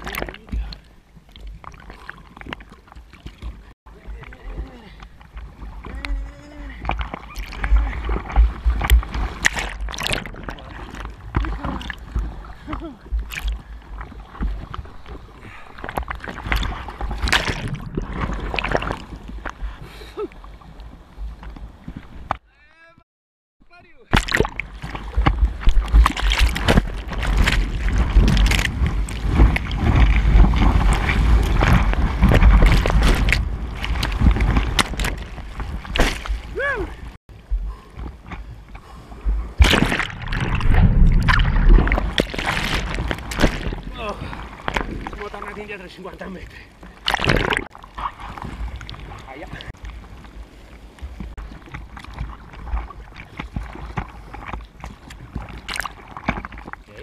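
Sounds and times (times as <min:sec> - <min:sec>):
seawater sloshing and splashing: 0:00.0 - 0:22.4, 0:24.1 - 0:57.0.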